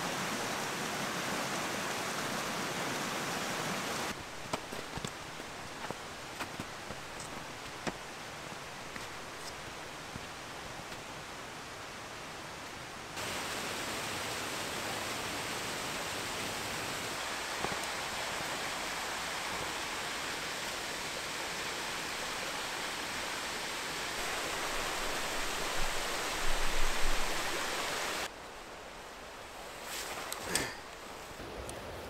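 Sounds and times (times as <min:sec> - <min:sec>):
waterfall rushing over rocks: 0:00.0 - 0:28.3.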